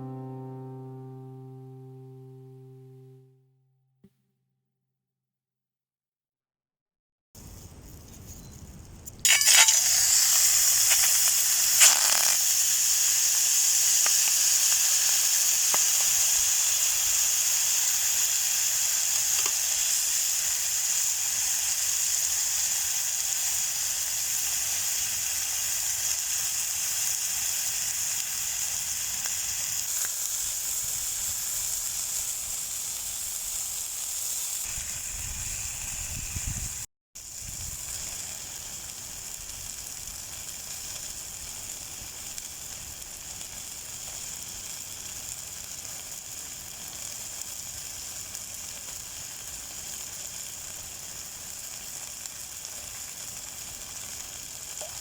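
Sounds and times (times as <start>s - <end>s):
chicken sizzling in a frying pan: 8.7s - 55.0s.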